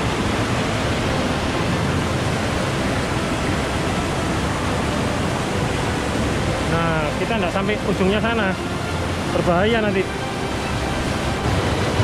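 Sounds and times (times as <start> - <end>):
white water roaring over boulders: 0.0 - 12.0.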